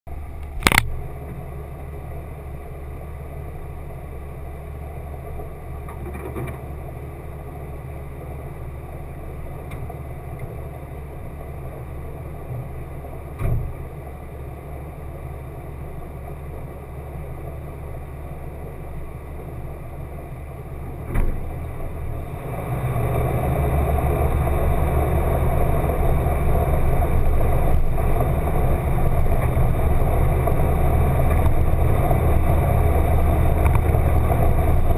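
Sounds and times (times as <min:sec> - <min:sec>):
car driving on dirt trail: 0:00.1 - 0:34.9
muffled car engine idling: 0:00.1 - 0:34.9.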